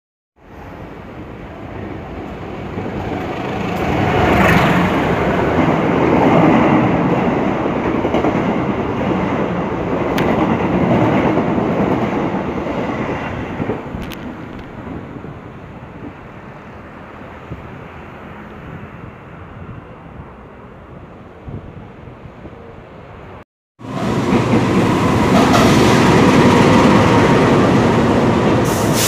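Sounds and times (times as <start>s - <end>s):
train passing on rails: 0.4s - 29.0s.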